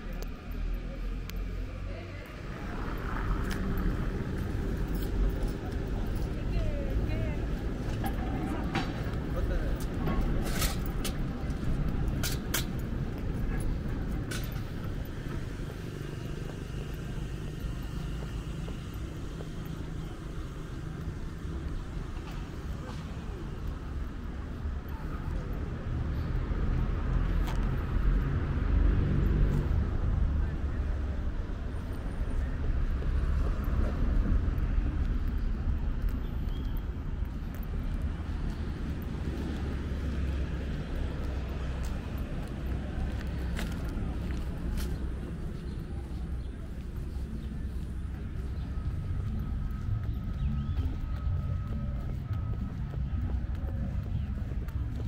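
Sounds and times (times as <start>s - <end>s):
distant traffic rumble: 0.0s - 55.0s.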